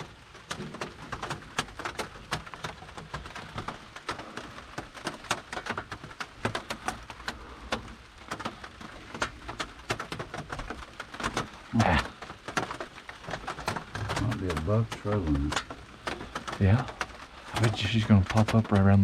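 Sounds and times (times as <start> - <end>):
rain drops ticking on surface: 0.0 - 19.0.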